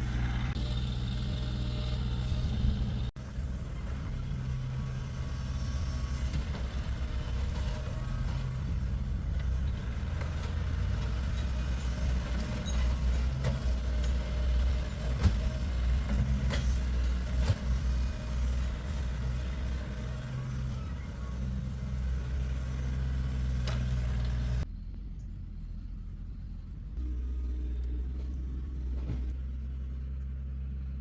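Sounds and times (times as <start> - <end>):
heavy vehicle engine idling: 0.0 - 31.0.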